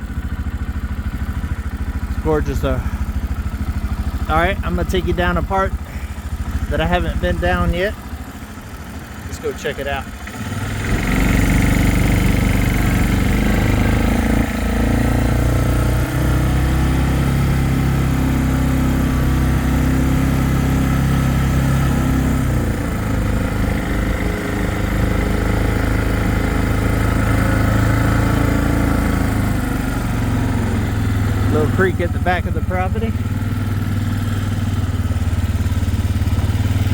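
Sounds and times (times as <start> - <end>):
atv engine revving: 0.0 - 36.9.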